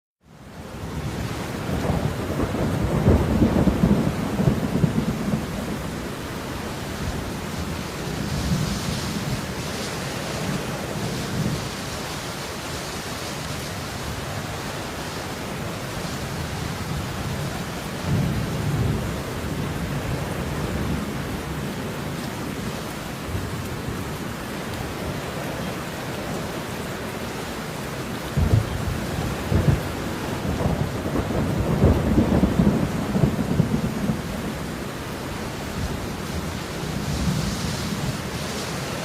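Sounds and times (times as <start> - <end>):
steady falling rain: 0.2 - 39.0
thunder rumbling: 0.9 - 12.4, 13.8 - 24.0, 28.2 - 39.0.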